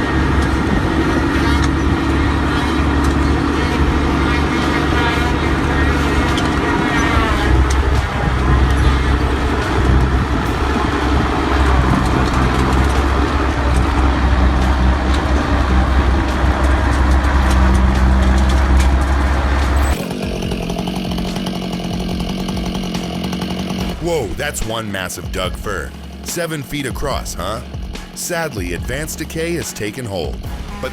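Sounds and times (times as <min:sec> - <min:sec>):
chainsaw running: 0:00.0 - 0:30.9
heavy machine engine rumbling: 0:00.0 - 0:30.9.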